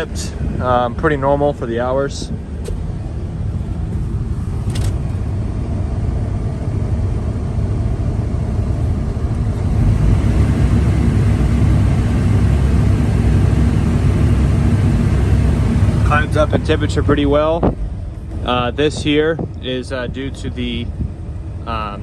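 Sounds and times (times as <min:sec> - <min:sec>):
excavator diesel engine rumbling: 0:00.0 - 0:22.0.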